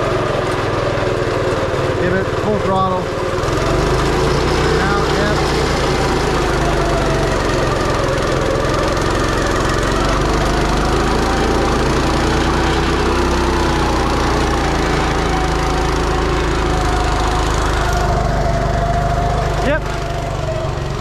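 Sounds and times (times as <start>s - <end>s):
small gasoline engine running: 0.0s - 21.0s.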